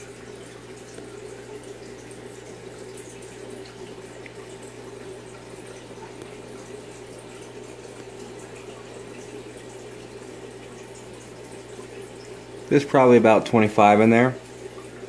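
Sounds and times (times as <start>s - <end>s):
aquarium water bubbling: 0.0s - 15.0s.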